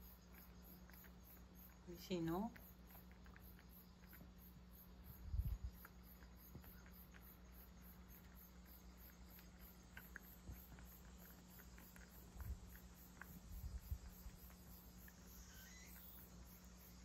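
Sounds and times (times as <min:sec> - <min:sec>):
cat licking and chewing: 0:00.0 - 0:17.0
steady low hum: 0:00.0 - 0:17.0.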